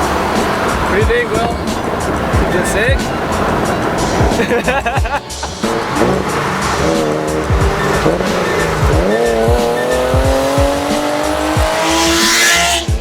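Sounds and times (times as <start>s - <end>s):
loud car exhaust accelerating: 0.0s - 13.0s.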